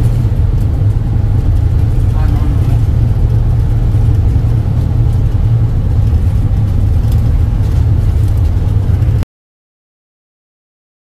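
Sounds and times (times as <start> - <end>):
in-cab road and engine rumble: 0.0 - 9.2.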